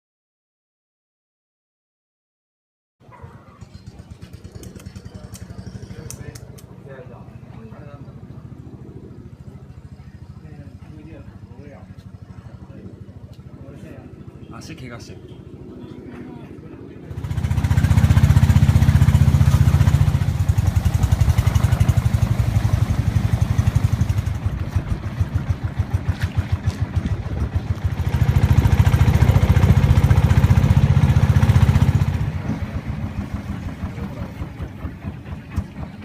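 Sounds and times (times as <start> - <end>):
boat engine running: 3.1 - 36.0.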